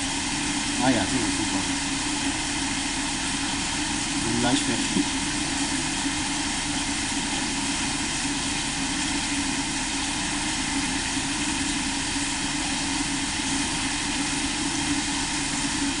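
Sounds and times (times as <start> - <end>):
machine drone with low hum: 0.0 - 16.0.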